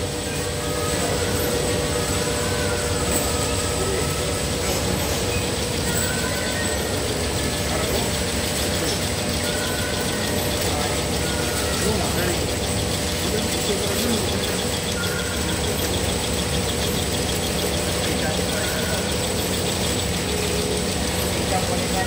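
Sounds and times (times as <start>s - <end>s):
fast even mechanical ticking: 0.0s - 22.0s
machine humming: 0.0s - 22.0s.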